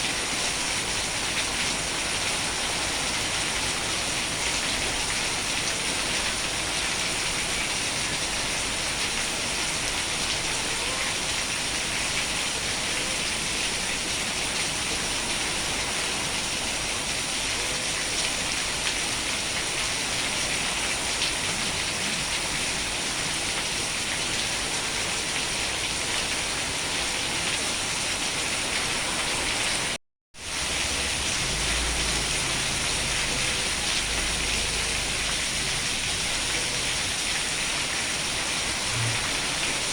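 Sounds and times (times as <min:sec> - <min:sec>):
dense rain falling: 0:00.0 - 0:39.9.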